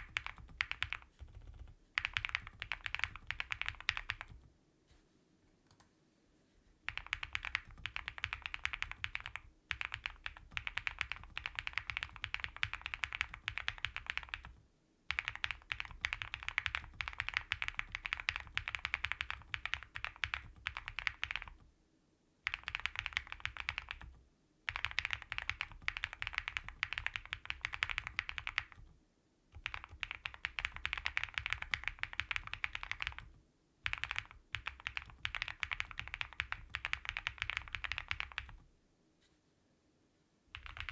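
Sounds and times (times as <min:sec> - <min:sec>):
mechanical keyboard typing: 0:00.0 - 0:04.5, 0:06.9 - 0:21.7, 0:22.4 - 0:29.0, 0:29.6 - 0:38.7, 0:40.5 - 0:40.9.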